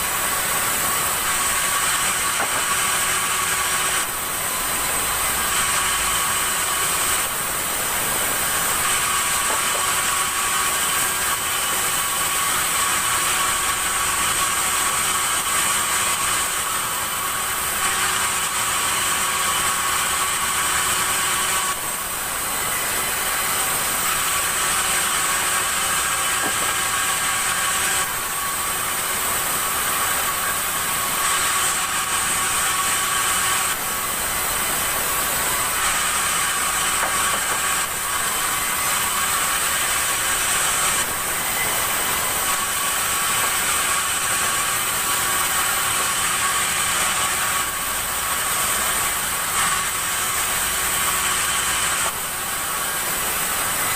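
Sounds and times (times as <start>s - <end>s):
sawmill saw whining: 0.0s - 53.9s.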